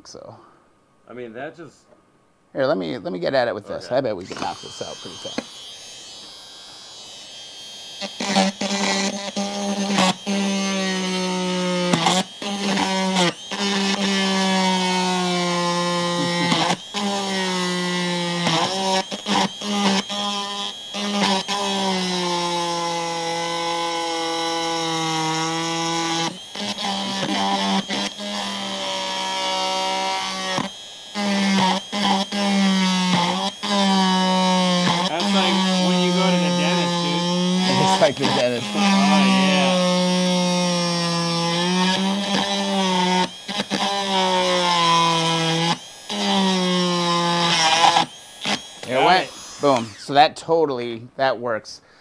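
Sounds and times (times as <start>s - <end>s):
rotary tool whining while cutting: 3.9s - 50.3s.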